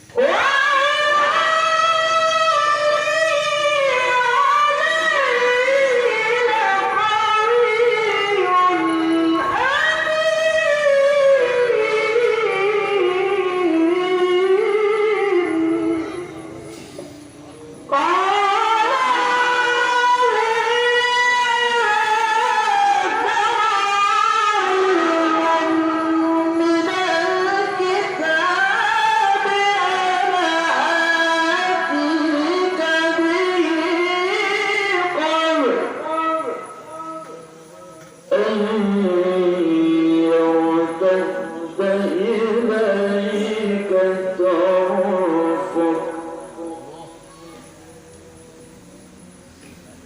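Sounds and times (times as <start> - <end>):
man reciting melodically: 0.0 - 48.8.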